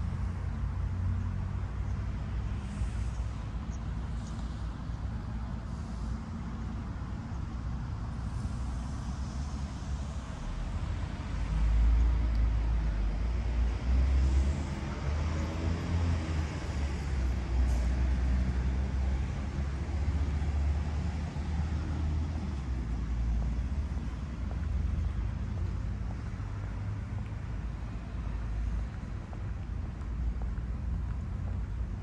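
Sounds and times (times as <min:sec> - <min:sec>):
passing cars rumbling: 0:00.0 - 0:32.0.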